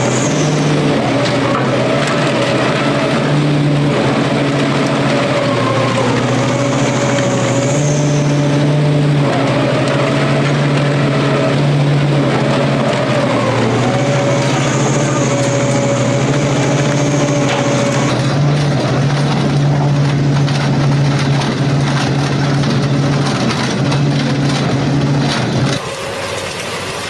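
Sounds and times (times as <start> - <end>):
high machine whine: 0.0 - 27.0
machine drive hum: 0.0 - 27.0
shredder crunching scrap metal: 0.0 - 27.0.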